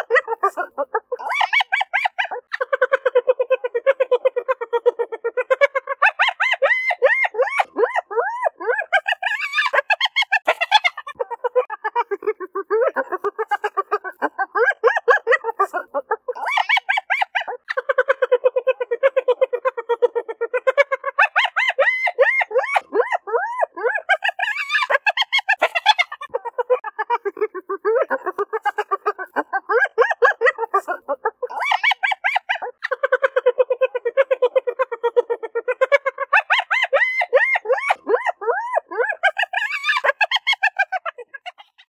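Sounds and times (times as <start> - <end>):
hyena yelps: 0.0 - 42.0
hyenas giggling: 0.0 - 42.0.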